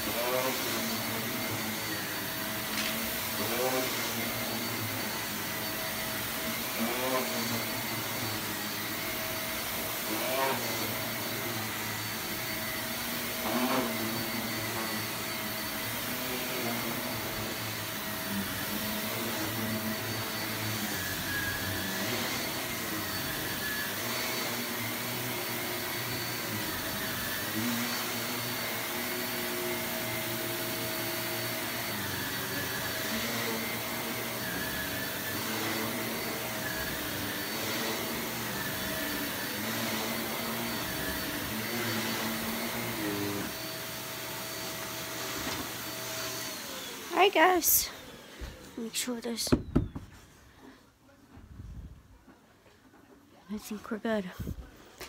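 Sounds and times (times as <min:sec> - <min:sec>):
vacuum cleaner running: 0:00.0 - 0:51.8.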